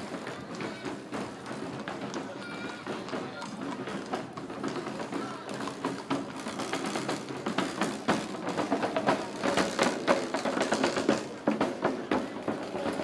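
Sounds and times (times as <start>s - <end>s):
side drums marching rhythm: 0.0s - 13.0s.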